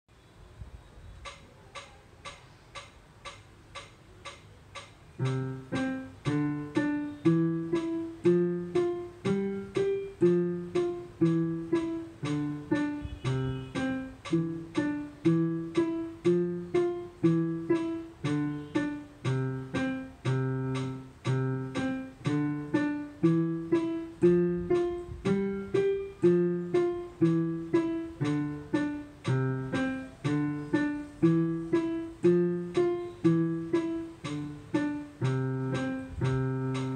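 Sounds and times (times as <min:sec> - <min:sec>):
digital piano playing: 0:03.7 - 0:36.9.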